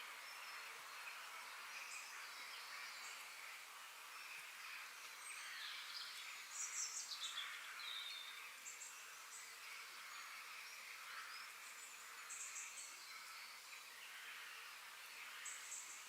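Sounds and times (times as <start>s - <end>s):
faint high background hiss: 0.0s - 16.0s.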